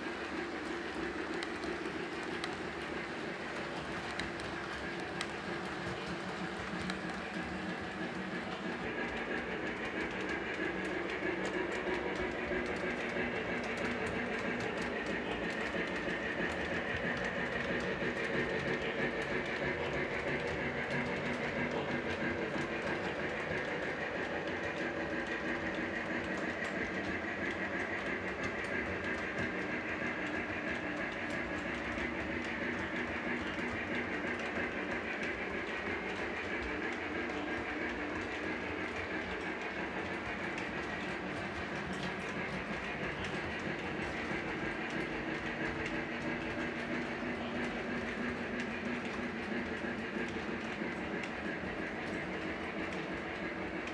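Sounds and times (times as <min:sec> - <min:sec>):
constant high hum: 0:00.0 - 0:53.9
toy train wheels rumbling on rail: 0:00.0 - 0:53.9.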